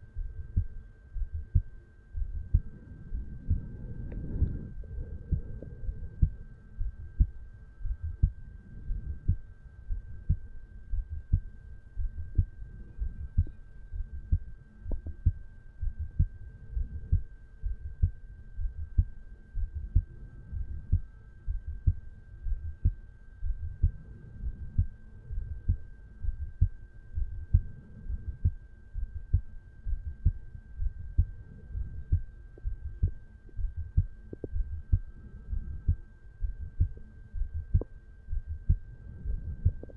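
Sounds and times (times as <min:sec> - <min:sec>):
faint high whine: 0:00.0 - 0:39.9
heartbeat: 0:00.0 - 0:39.9.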